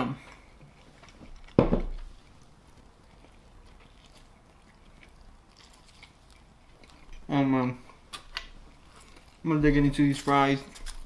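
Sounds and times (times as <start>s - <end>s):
faint biting and chewing: 0.1s - 9.5s.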